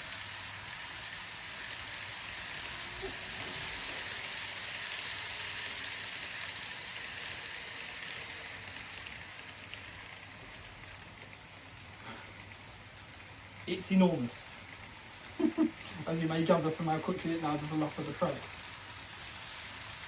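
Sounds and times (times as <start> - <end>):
model train whirring on track: 0.0 - 20.0.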